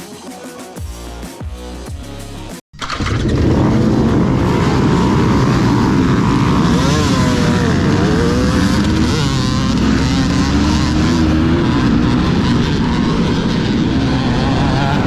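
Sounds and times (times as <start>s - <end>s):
dirt bike engines revving: 2.9s - 15.0s.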